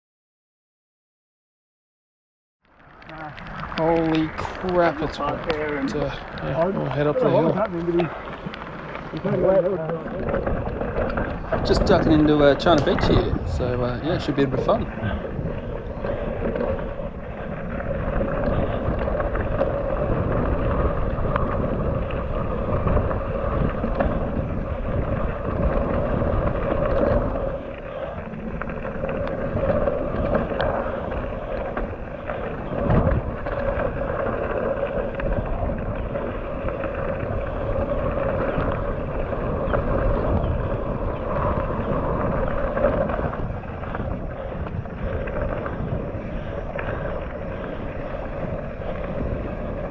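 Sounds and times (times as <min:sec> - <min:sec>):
bike tyre roar: 0:02.7 - 0:49.9
wind buffeting microphone: 0:02.8 - 0:49.9.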